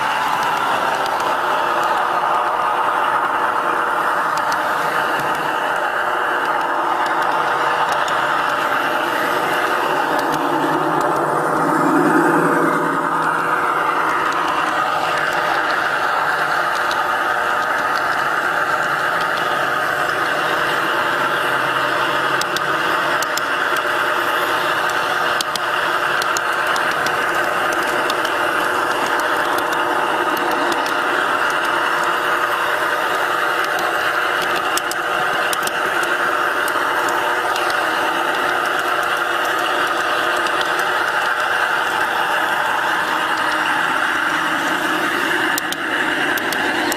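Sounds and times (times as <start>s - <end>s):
sharp clicks: 0.0s - 3.4s, 4.1s - 24.0s, 24.6s - 46.9s
model train motor whine: 0.0s - 46.9s
wheel noise on rails: 0.0s - 46.9s.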